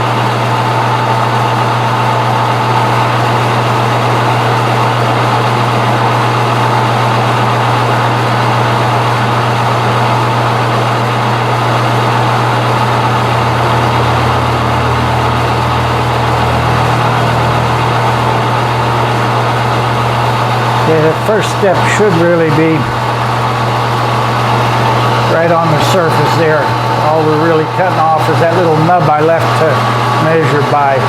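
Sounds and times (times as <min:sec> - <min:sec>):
lower hum: 0:00.0 - 0:31.0
mechanical whir: 0:00.0 - 0:31.0
metal lathe motor humming: 0:00.0 - 0:31.0.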